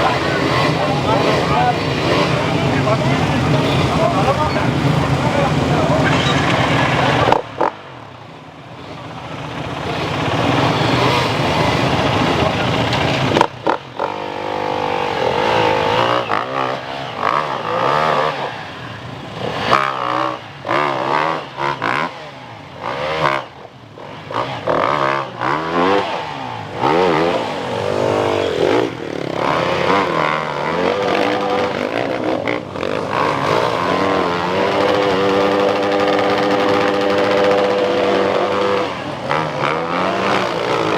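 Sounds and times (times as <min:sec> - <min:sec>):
dirt bikes revving: 0:00.0 - 0:40.9.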